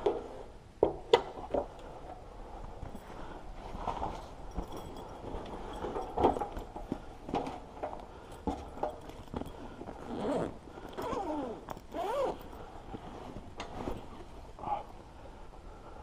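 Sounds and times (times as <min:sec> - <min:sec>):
light clicks and rustles: 0:01.0 - 0:14.6.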